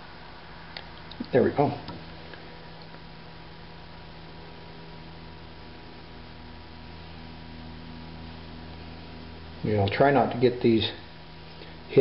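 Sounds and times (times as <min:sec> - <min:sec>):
electrical mains hum: 0:00.0 - 0:12.0
extra electrical tone: 0:00.0 - 0:12.0.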